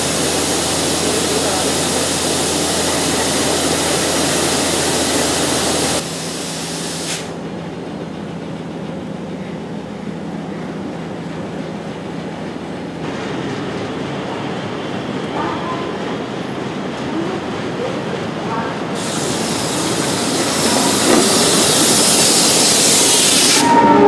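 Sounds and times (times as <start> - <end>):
locomotive engine drone: 0.0 - 24.0.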